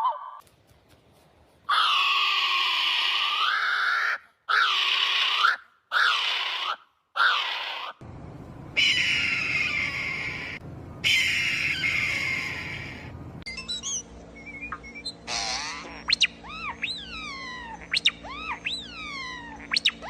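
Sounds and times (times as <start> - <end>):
bird harsh screechy calls: 1.7 - 8.0, 8.8 - 20.0.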